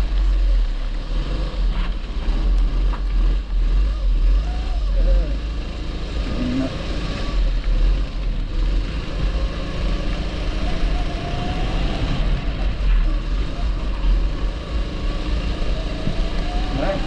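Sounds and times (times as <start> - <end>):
kart engine running: 0.0 - 17.0.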